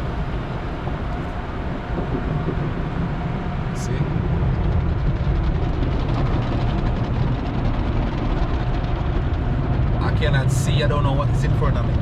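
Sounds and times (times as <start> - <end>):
car wash low rumble: 0.0 - 12.0.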